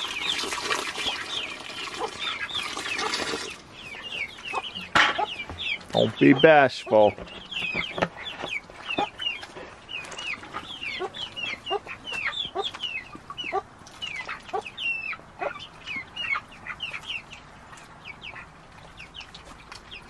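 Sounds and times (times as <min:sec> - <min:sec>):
chickens chirping: 0:00.0 - 0:20.0
chickens clucking: 0:00.0 - 0:20.0.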